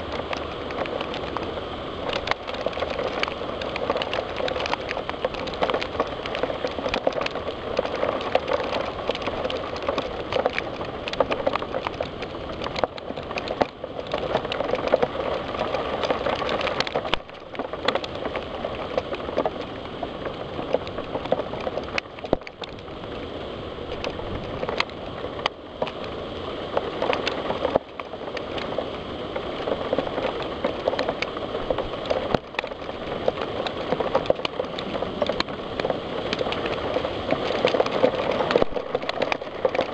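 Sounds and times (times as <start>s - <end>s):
rain falling: 0.0s - 39.9s
raindrops ticking on window glass: 0.0s - 39.9s.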